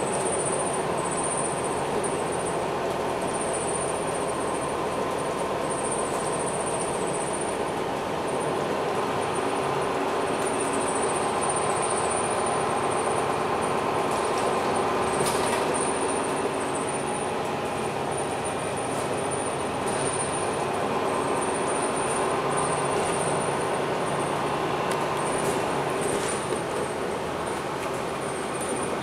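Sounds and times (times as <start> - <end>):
bus engine hum: 0.0 - 29.0
road noise: 0.0 - 29.0.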